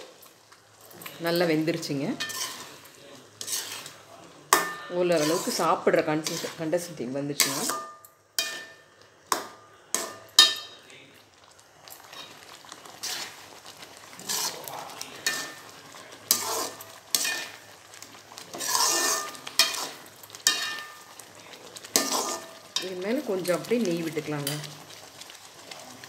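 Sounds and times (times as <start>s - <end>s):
ladle scraping food in pan: 1.9s - 8.8s, 12.0s - 26.0s.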